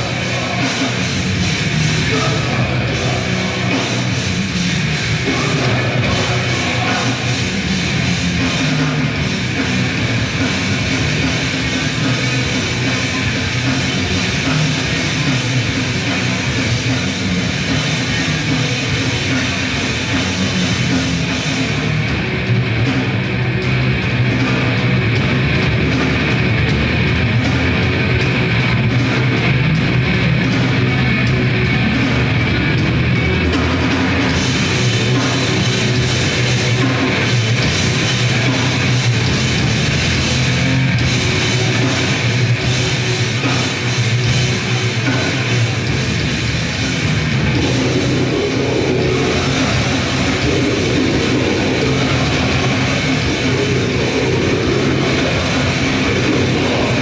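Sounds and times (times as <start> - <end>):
distorted guitar: 0.0 - 57.0
drum kit: 0.0 - 57.0.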